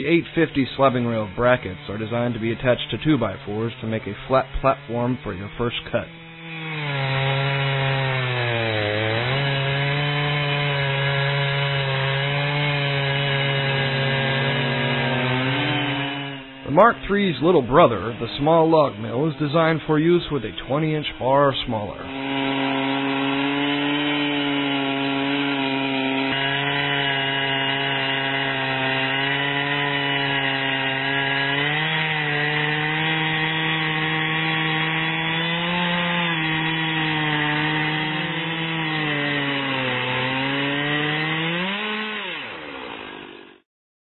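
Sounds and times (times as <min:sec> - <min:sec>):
chainsaw ripping along a log: 0:00.0 - 0:43.6.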